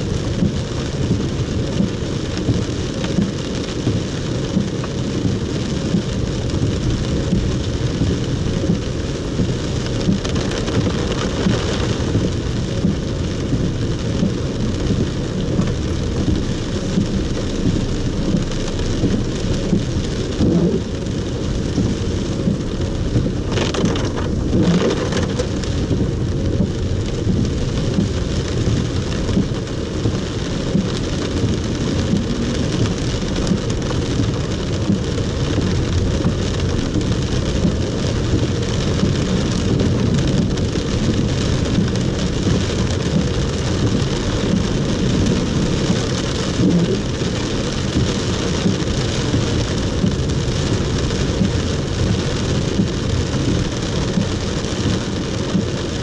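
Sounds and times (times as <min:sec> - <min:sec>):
heavy rain on car roof: 0:00.0 - 0:56.0
tyres rumbling on wet road: 0:00.0 - 0:56.0.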